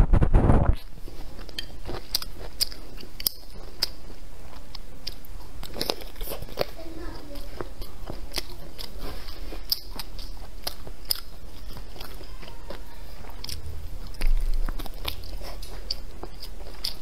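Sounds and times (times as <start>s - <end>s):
wet chewing mouth clicks: 0.8s - 17.0s.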